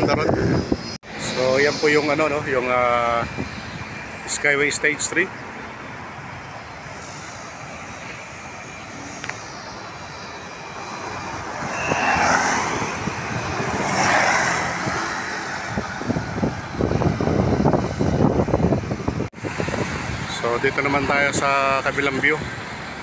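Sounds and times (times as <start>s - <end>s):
vehicles passing with whoosh: 0.0s - 23.0s
wind rumbling on microphone: 0.0s - 23.0s.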